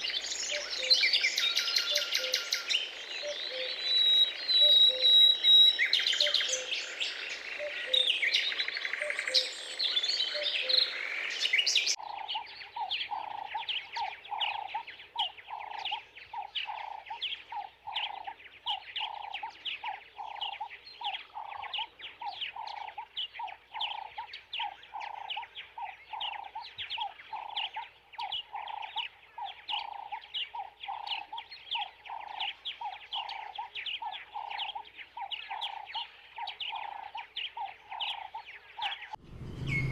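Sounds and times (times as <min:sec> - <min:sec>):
repeated bird calls: 0:00.0 - 0:39.9.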